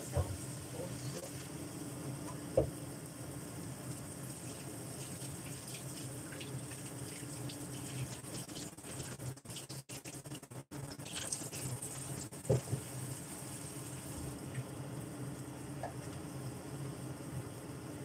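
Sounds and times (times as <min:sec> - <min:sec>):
food simmering with bubbling: 0:00.1 - 0:18.0.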